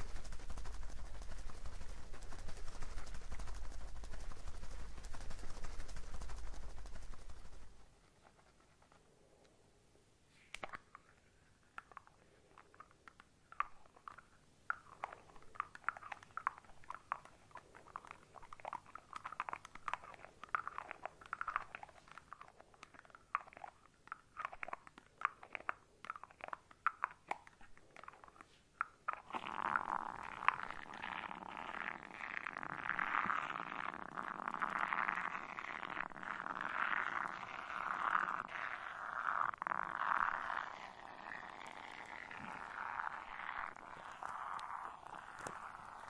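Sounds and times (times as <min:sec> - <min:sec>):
hands squishing shaving foam: 0:00.0 - 0:07.8, 0:11.8 - 0:46.0.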